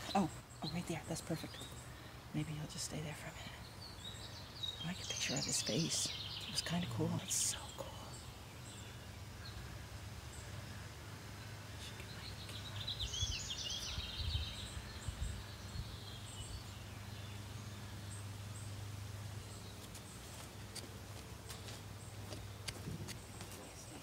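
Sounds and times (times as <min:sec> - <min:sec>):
small bird chirping: 0:00.0 - 0:10.8, 0:11.4 - 0:24.0.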